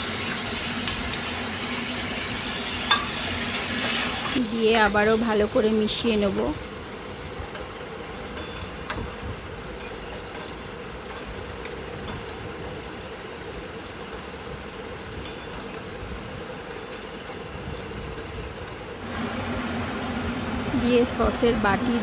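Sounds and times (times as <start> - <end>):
stir-fry hissing: 0.0 - 21.8.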